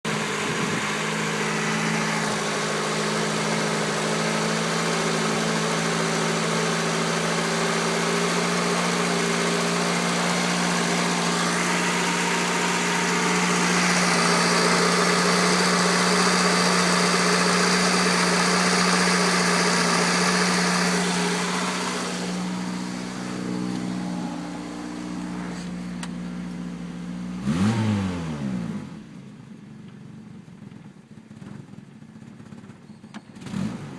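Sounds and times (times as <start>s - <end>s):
car engine rough idle: 0.1s - 27.4s, 29.0s - 33.4s.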